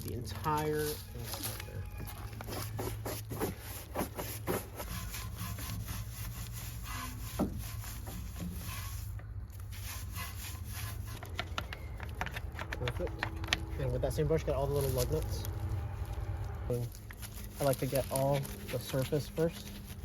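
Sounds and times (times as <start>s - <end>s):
brush scrubbing a wheel: 0.1s - 20.0s.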